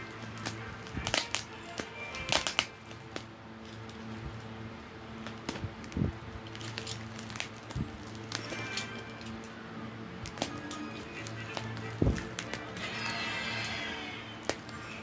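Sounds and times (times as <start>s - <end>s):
bubble wrap crinkling: 0.0s - 4.4s, 5.0s - 15.0s
faint background music: 0.0s - 15.0s.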